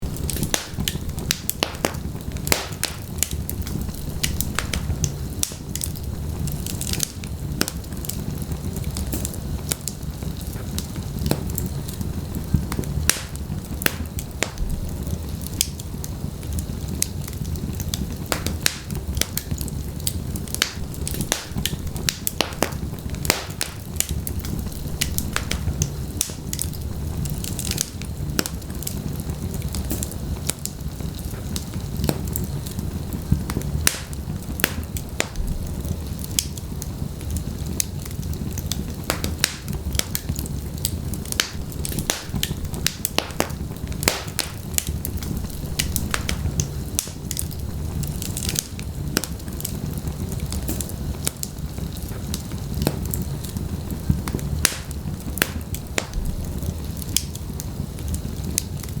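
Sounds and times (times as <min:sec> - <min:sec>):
fire crackling and popping: 0:00.0 - 0:59.0
fire flames rumbling: 0:00.0 - 0:59.0.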